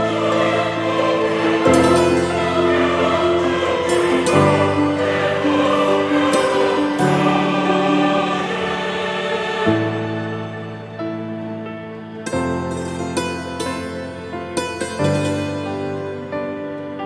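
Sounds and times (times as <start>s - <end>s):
choir singing with music: 0.0s - 17.0s.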